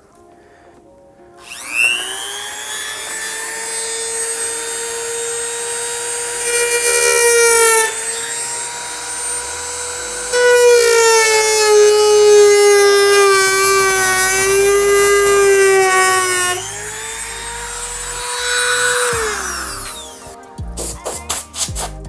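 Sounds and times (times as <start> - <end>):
cutting wheel cutting carbon fiber: 1.4 - 20.3
rotary tool high-pitched whine: 1.4 - 20.3.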